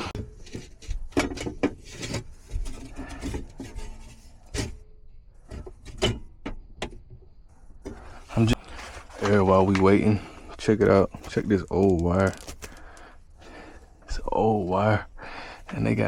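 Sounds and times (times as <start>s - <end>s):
knocks clicks and scraping: 0.0s - 13.1s.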